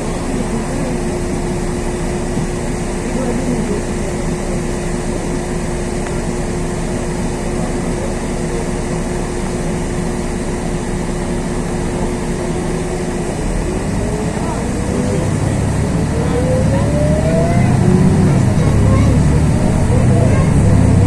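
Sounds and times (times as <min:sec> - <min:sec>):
bus engine droning: 0:00.0 - 0:21.0
drivetrain whine: 0:00.0 - 0:21.0.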